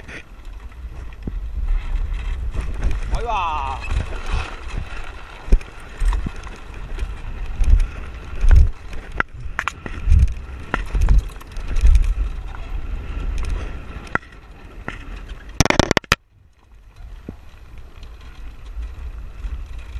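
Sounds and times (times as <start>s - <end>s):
frame and rigging rattling: 0.0s - 16.2s
wind and rolling rumble: 0.0s - 19.9s.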